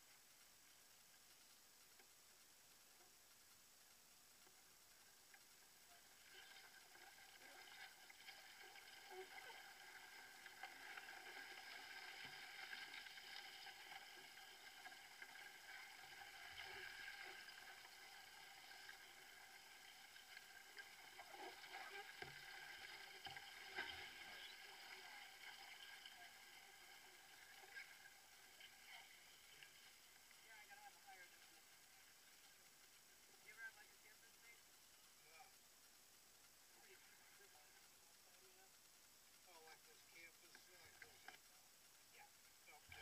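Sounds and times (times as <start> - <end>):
water swishing along canoe hull: 0.0 - 34.6.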